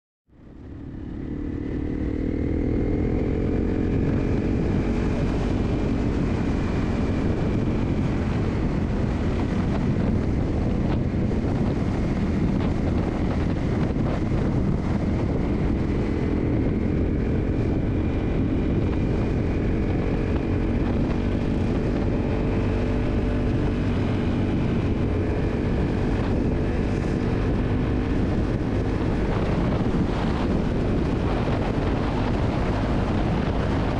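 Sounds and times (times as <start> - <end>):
motorcycle engine cruising: 0.3 - 33.9
wind and road noise: 0.3 - 33.9.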